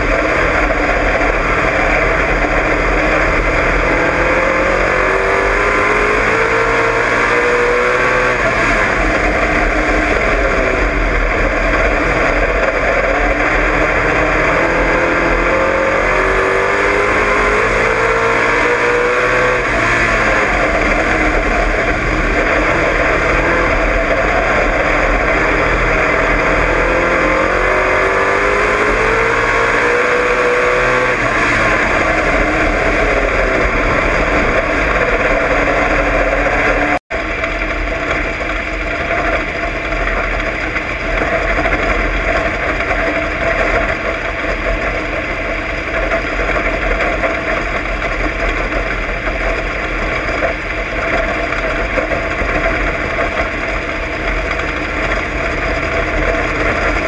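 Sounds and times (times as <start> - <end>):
race car engine: 0.0 - 57.0
rushing noise: 0.0 - 57.0.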